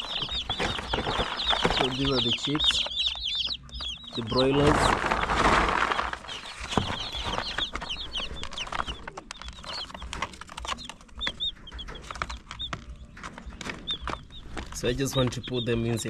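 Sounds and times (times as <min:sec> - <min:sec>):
handling rustle: 0:00.0 - 0:15.5
chicks peeping: 0:00.0 - 0:16.0.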